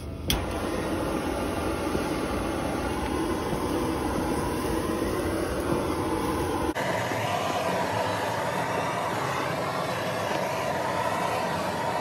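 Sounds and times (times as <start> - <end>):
butane torch hissing: 0.0 - 12.0.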